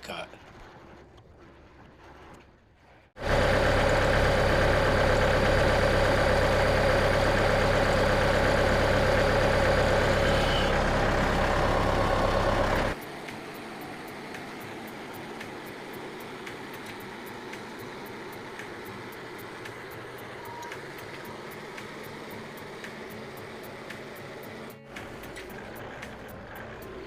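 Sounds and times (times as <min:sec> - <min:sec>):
bandsaw mill running: 0:03.2 - 0:27.0.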